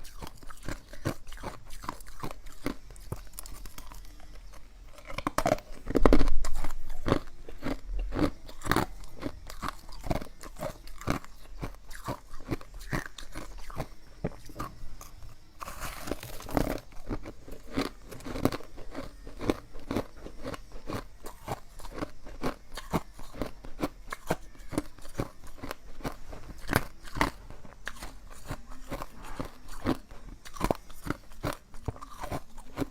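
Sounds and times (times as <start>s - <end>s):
ice crunching being chewed: 0.0s - 32.9s.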